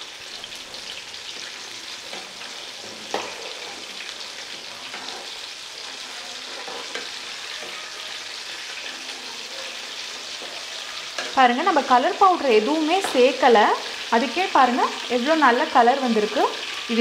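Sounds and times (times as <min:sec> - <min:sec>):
chicken deep-frying in oil: 0:00.0 - 0:17.0
metal spoon scraping a pan: 0:00.2 - 0:14.1.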